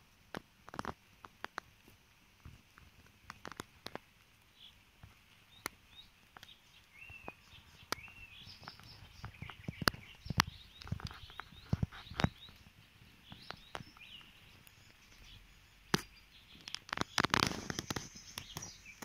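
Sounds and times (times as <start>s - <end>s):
songbirds chirping: 0.0s - 19.0s
sharp clicks and rustles: 0.2s - 19.0s.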